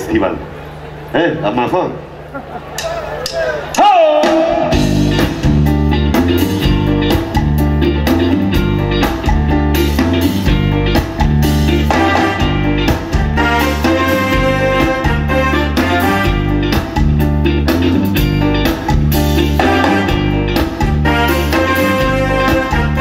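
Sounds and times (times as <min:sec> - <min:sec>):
band music: 0:00.0 - 0:23.0.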